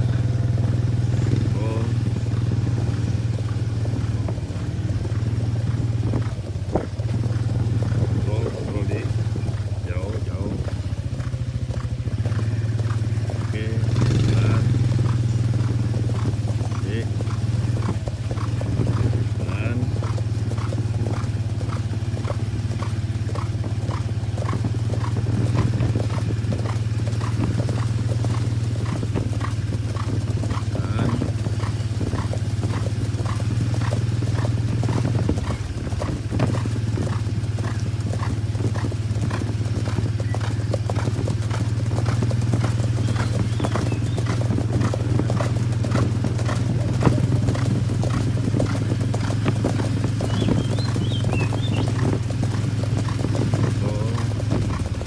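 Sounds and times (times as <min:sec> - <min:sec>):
hoofbeats on hard road: 0:00.0 - 0:55.0.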